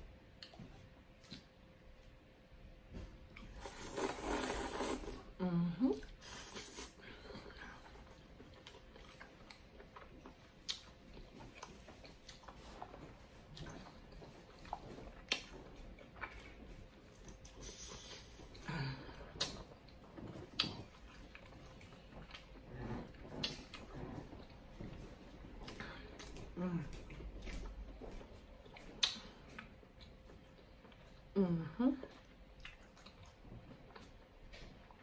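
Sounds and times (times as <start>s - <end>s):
chewing and wet mouth sounds: 0.3s - 2.2s, 6.0s - 35.0s.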